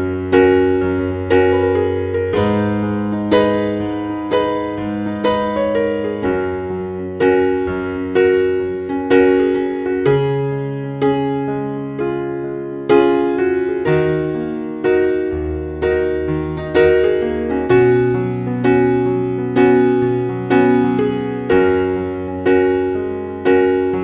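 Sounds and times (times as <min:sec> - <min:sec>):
slow piano piece: 0:00.0 - 0:24.0.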